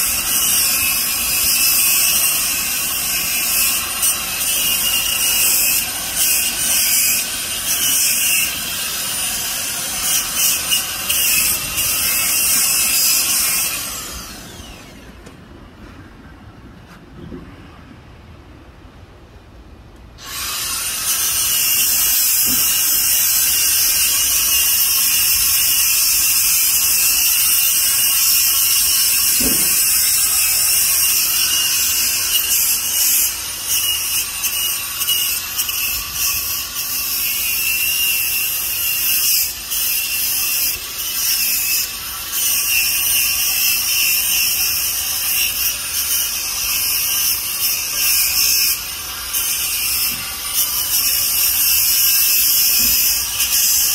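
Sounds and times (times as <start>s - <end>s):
grinder grinding metal: 0.0s - 15.1s, 20.2s - 53.9s
angle grinder whining: 0.0s - 15.3s, 20.2s - 53.9s.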